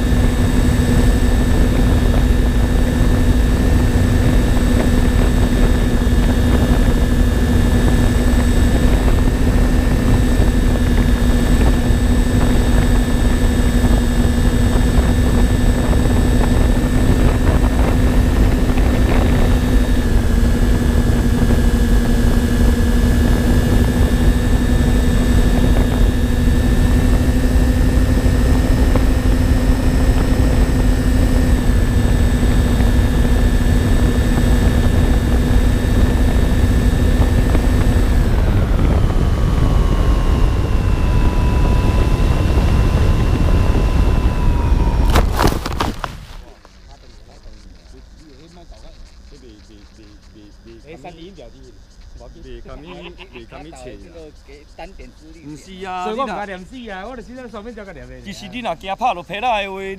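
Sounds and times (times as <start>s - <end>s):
electric motors and propellers humming: 0.0s - 59.9s.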